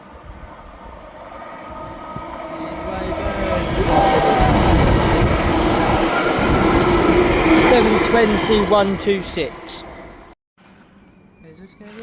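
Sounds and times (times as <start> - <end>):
electric train passing: 0.0 - 10.4.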